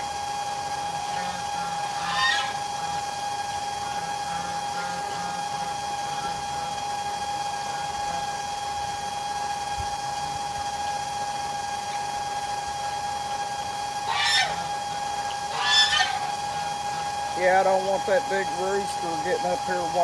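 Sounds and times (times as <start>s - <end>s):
small motor whine: 0.0s - 20.0s.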